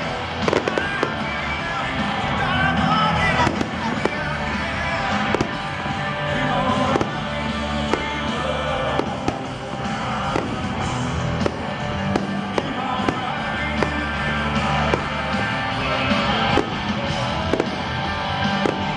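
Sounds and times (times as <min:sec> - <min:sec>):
fireworks bangs: 0:00.0 - 0:18.9
loud concert music: 0:00.0 - 0:18.9.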